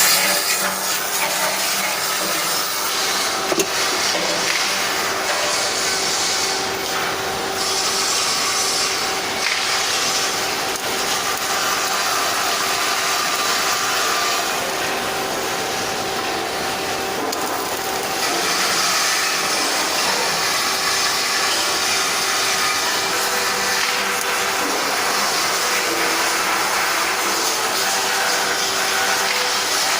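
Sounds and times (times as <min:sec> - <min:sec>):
arc welding crackle and hiss: 0:00.0 - 0:29.9.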